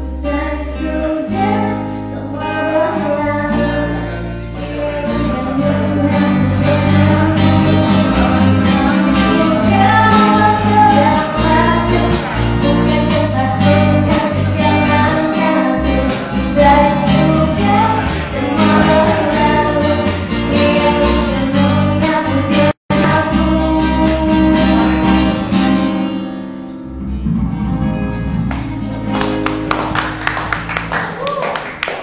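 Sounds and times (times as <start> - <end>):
woman singing: 0.0 - 26.0
strummed acoustic guitar: 0.0 - 30.2.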